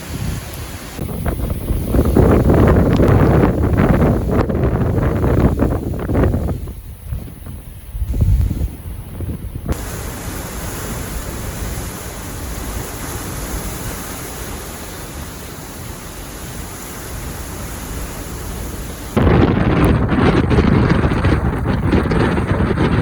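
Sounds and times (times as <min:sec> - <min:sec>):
storm rushing noise: 0:00.0 - 0:23.0
wind buffeting microphone: 0:00.0 - 0:23.0.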